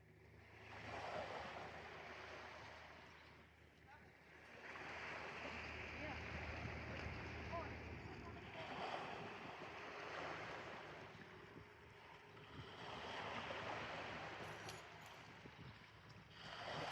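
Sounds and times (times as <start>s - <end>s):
wind: 0.0s - 16.9s
waves rushing: 0.6s - 3.2s, 4.3s - 15.2s, 16.4s - 16.9s.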